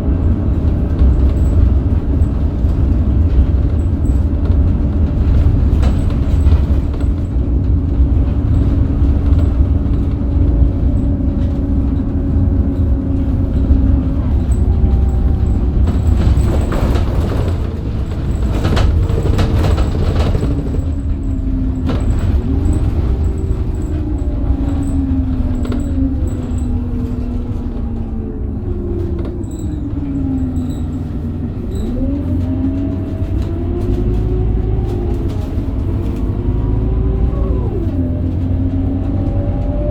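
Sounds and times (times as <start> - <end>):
bus diesel engine running: 0.0 - 39.9
gearbox whine: 0.0 - 39.9.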